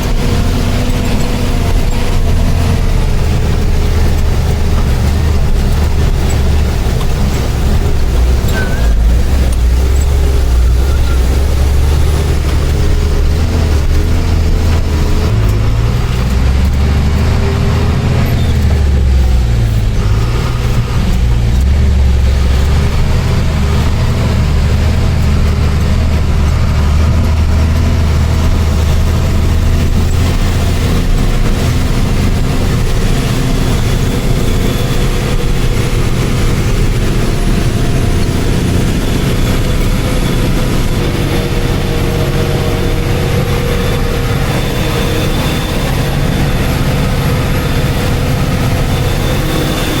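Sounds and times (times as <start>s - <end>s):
truck engine droning: 0.0s - 50.0s.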